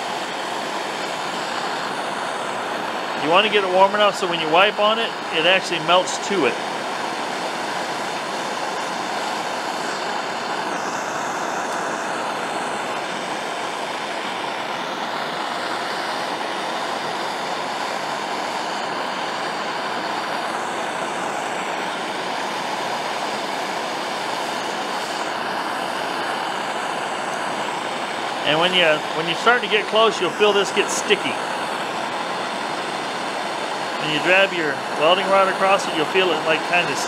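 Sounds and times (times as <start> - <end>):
gas torch flame rushing: 0.0 - 37.0.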